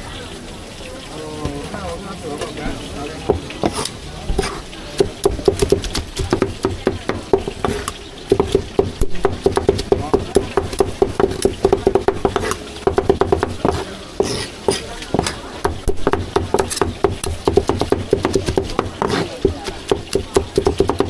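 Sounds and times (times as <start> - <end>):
cleaver chopping on wooden block: 3.3 - 21.0.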